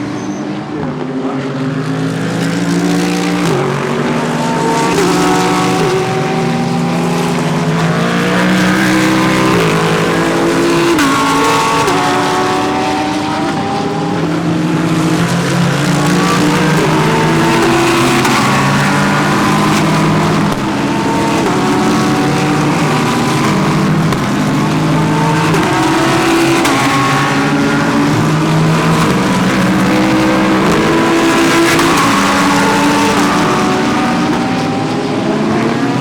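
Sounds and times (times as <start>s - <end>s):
race cars passing: 0.0s - 36.0s.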